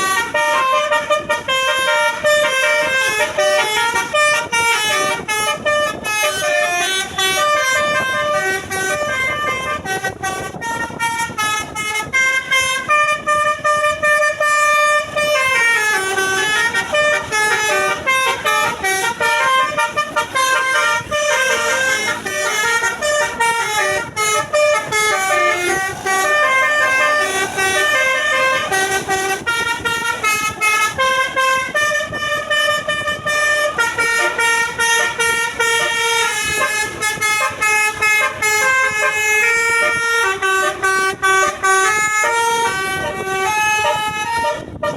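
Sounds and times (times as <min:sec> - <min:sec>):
bus horn playing a tune: 0:00.0 - 0:44.9.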